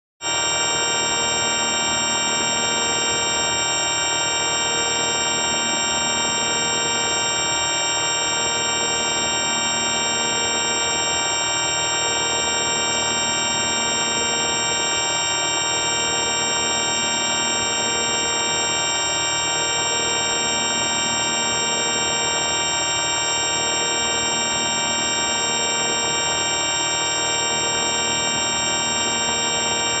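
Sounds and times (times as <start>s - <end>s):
electronic buzzing drone: 0.2s - 30.0s.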